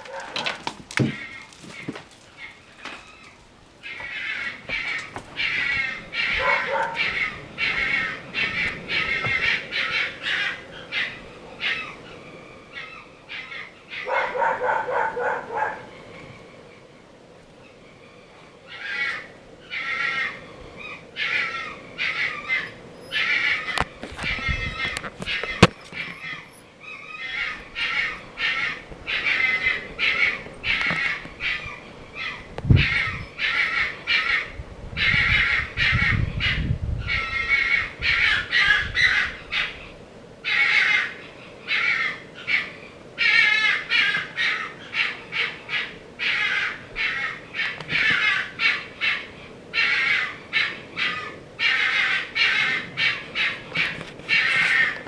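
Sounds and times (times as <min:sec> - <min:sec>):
harsh raspy animal call: 0:03.8 - 0:12.1, 0:18.7 - 0:55.0.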